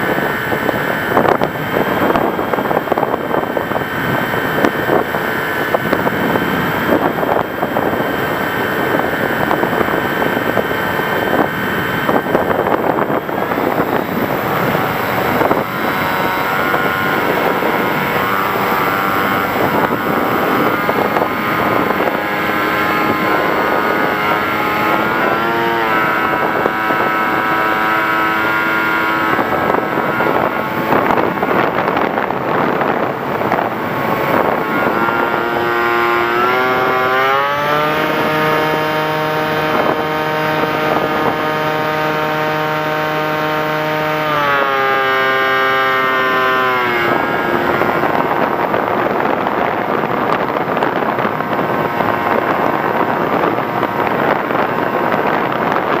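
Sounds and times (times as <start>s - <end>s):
model plane motor whine: 0.0s - 56.0s
rushing air noise: 0.0s - 56.0s.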